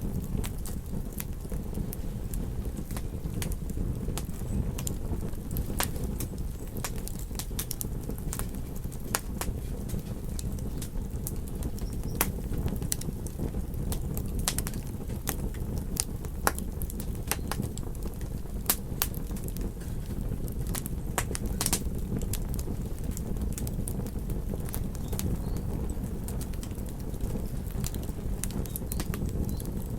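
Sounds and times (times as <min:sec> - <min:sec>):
fire crackling and popping: 0:00.0 - 0:29.9
low rumble of burning: 0:00.0 - 0:29.9.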